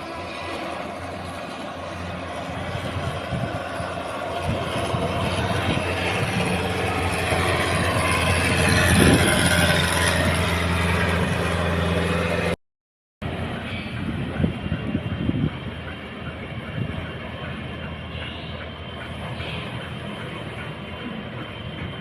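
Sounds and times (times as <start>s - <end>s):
diesel engine low drone: 0.0s - 12.6s, 13.2s - 22.0s.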